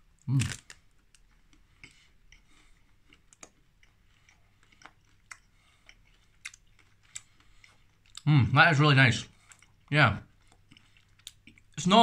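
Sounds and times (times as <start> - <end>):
faint chewing crunches: 0.0 - 12.0.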